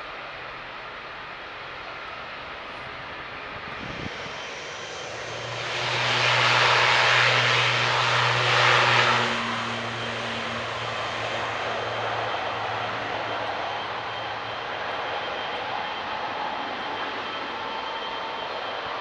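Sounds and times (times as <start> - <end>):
jet engines during takeoff: 0.0 - 19.0.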